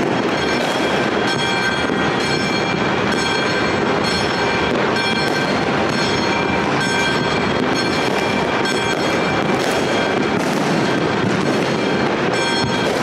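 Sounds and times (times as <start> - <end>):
fireworks rumbling and crackling: 0.0 - 13.0
high-pitched tone: 0.0 - 13.0.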